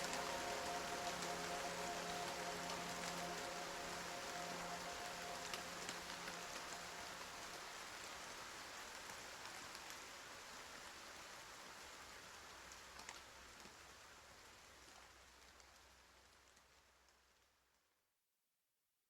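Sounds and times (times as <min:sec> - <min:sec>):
rain falling: 0:00.0 - 0:17.6.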